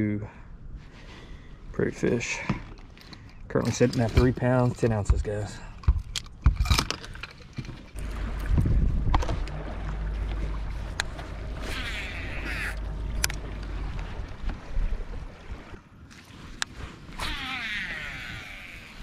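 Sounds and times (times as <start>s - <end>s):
low steady boat rumble: 0.0s - 19.0s.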